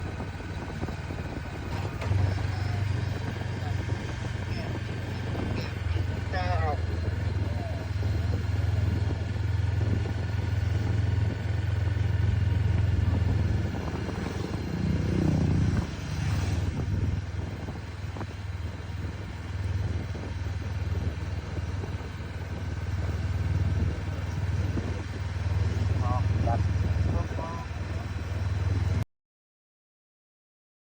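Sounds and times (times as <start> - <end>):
motorcycle engine running: 0.0 - 29.0
road and wind hiss: 0.0 - 29.0.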